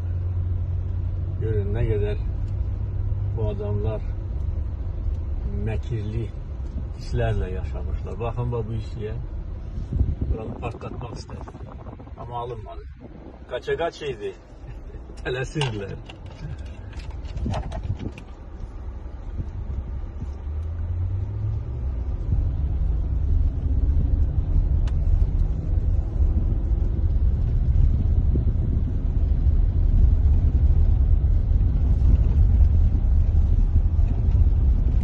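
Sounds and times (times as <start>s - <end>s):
car driving on gravel road: 0.0s - 35.0s.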